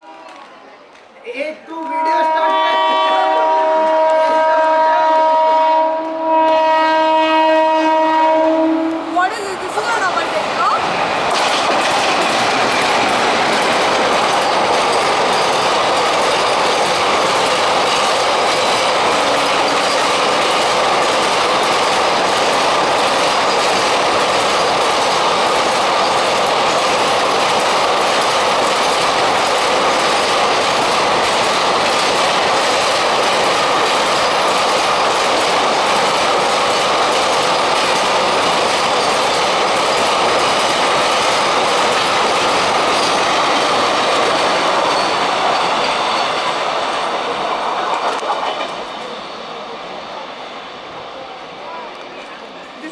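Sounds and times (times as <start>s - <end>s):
freight train wheels clattering: 1.8s - 52.9s.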